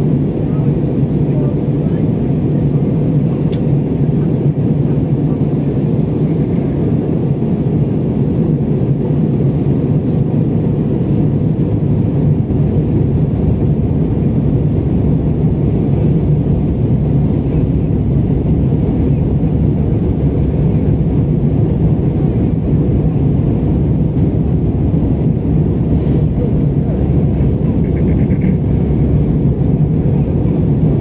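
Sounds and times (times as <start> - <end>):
airliner cabin engine roar: 0.0 - 31.0.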